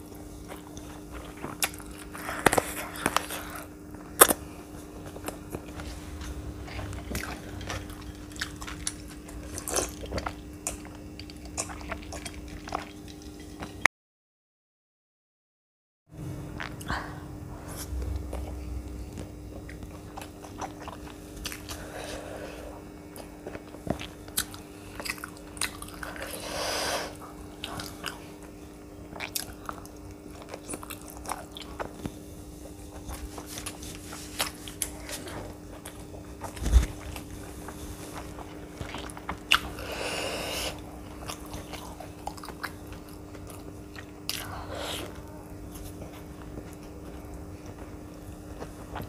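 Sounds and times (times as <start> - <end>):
close chewing of food: 0.0 - 13.8, 16.5 - 49.0
faint steady hum: 0.0 - 13.9, 16.1 - 49.0.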